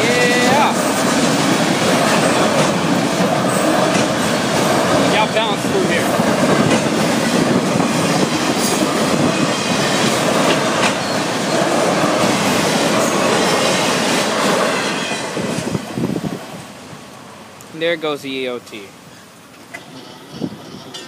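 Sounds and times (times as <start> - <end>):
freight train rumble and wheel clatter: 0.0 - 21.0.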